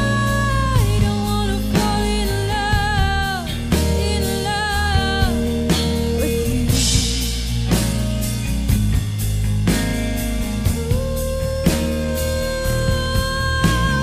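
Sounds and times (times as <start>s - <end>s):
rock music with drum beat: 0.0s - 14.0s.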